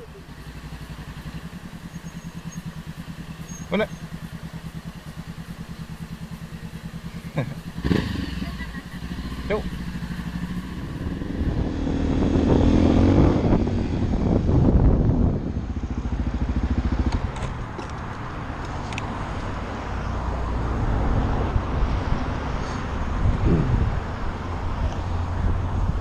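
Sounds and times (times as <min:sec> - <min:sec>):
motorcycle engine accelerating: 0:00.0 - 0:26.0
road and wind noise: 0:00.0 - 0:26.0.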